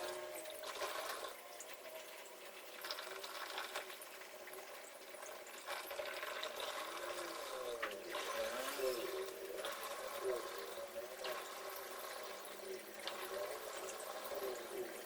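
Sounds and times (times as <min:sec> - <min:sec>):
water splashing in washing machine: 0:00.0 - 0:15.0.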